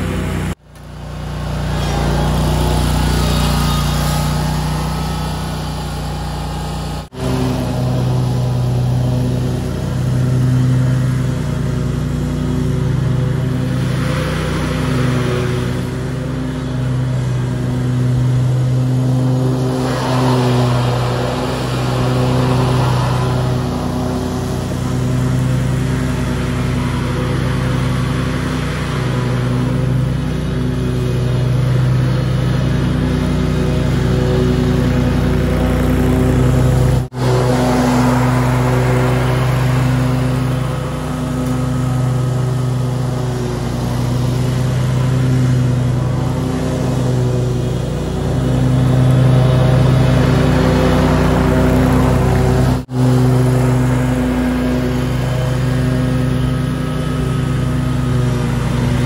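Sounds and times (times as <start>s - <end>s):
lawn mower running: 0.0s - 59.0s.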